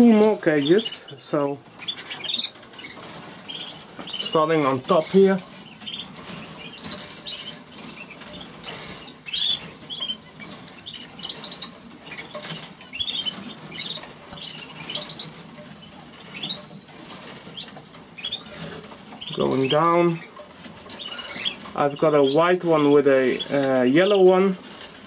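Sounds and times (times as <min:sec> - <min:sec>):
canaries chirping and trilling: 0:00.0 - 0:25.0
wing flutters and rustling: 0:00.0 - 0:25.0.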